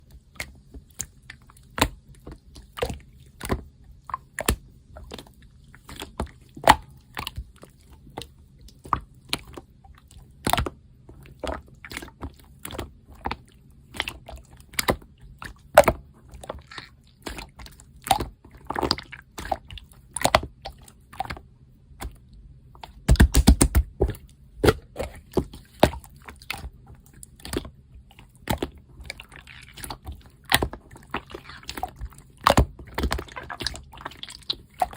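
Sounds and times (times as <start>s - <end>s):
slime squishing with clicks and pops: 0.1s - 34.9s.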